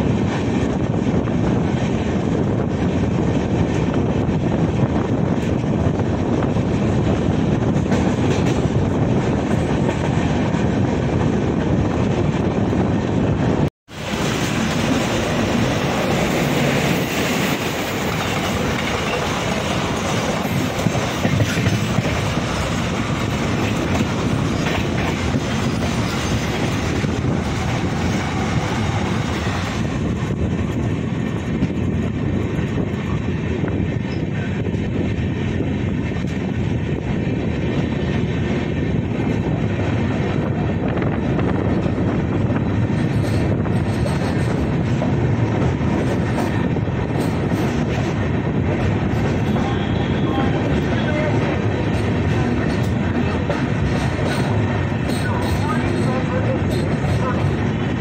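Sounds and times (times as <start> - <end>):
train running on track: 0.0 - 58.0.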